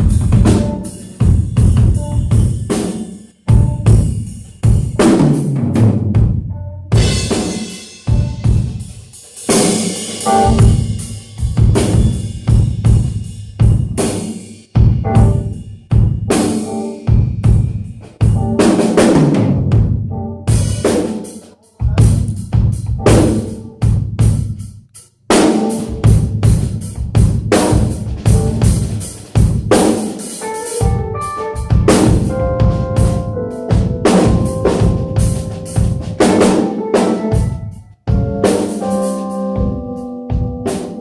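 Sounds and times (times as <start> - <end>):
bass drum and snare hits: 0.0 - 2.9, 3.5 - 6.4, 7.0 - 8.8, 9.5 - 14.2, 14.8 - 24.7, 25.3 - 30.2, 30.8 - 39.0.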